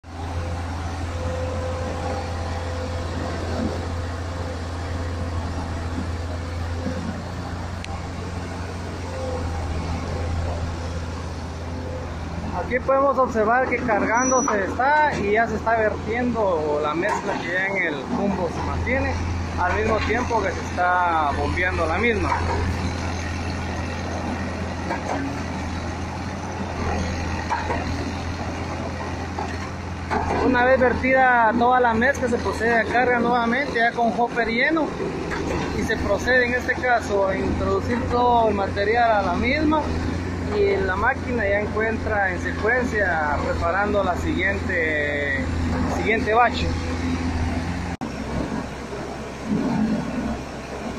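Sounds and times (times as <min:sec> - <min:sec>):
diesel machinery droning: 0:00.0 - 0:50.9
concrete pump running: 0:00.1 - 0:50.9.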